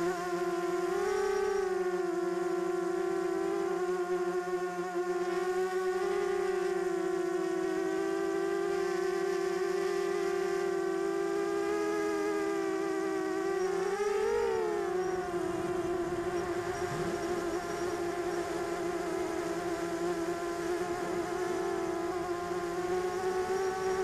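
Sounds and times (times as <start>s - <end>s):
quadcopter motors buzzing whine: 0.0s - 24.0s.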